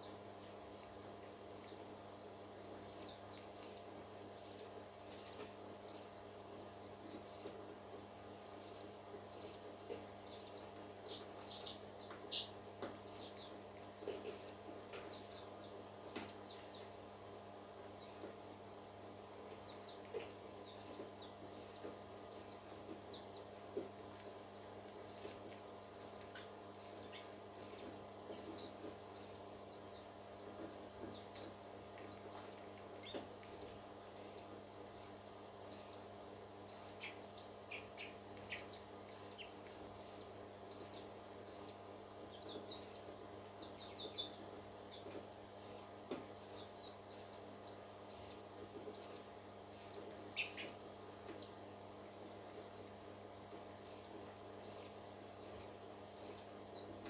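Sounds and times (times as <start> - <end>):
chicks peeping: 0.0 - 57.0
steady electrical hum: 0.0 - 57.0.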